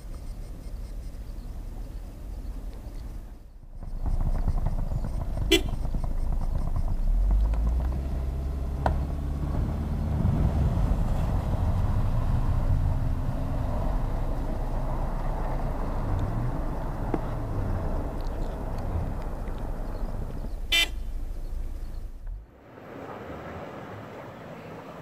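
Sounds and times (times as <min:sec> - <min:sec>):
car engine revving: 0:03.2 - 0:23.8.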